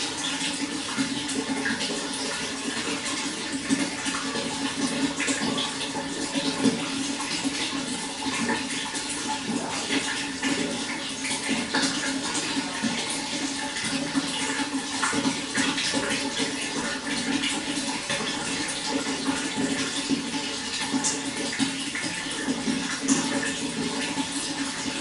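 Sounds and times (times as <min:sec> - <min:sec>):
running water: 0:00.0 - 0:25.0.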